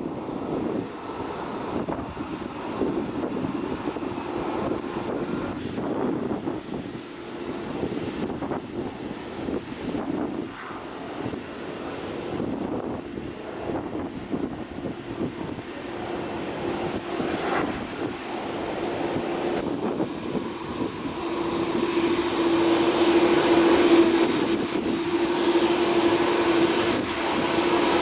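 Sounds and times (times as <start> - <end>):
high jet whine: 0.0 - 28.0
jet engine rumble: 0.0 - 28.0.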